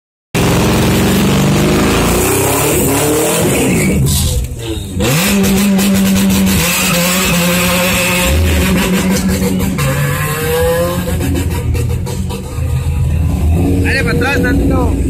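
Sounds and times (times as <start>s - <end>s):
car engine revving hard: 0.4s - 15.0s.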